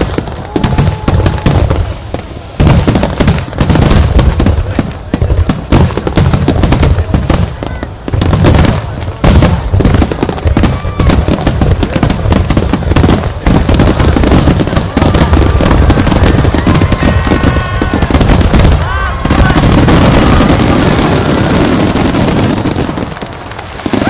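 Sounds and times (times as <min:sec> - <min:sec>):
fireworks barrage: 0:00.0 - 0:24.0.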